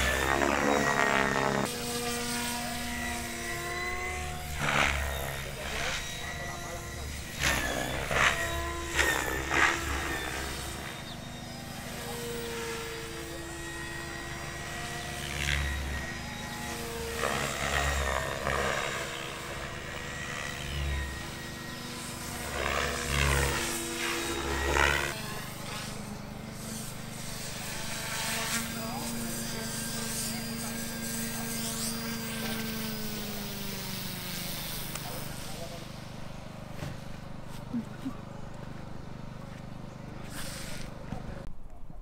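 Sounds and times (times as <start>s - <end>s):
toy helicopter rotor whine: 0.0s - 41.5s.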